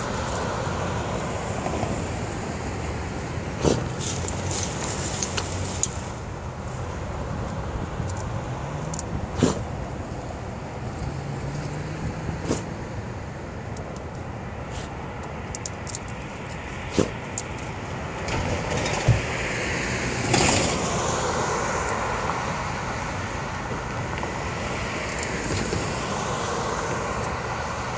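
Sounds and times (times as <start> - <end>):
car approaching: 0.0 - 27.9
street traffic: 0.0 - 27.9.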